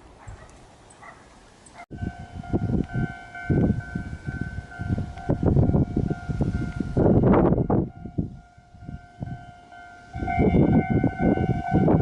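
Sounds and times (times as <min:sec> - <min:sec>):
train wheels rumbling on rails: 0:02.0 - 0:12.0.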